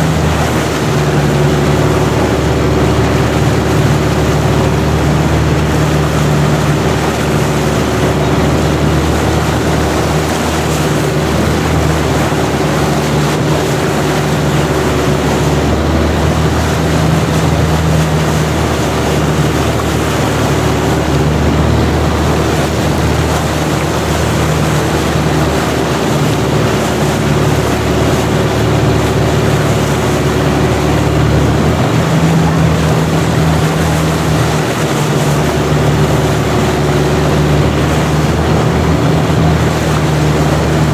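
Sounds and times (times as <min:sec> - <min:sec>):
boat engine running: 0:00.0 - 0:40.9
rushing water: 0:00.0 - 0:40.9
wind: 0:00.0 - 0:40.9.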